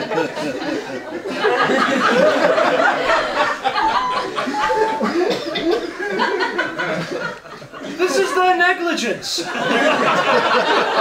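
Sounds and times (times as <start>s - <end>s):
audience laughing: 0.0s - 8.5s, 9.4s - 11.0s.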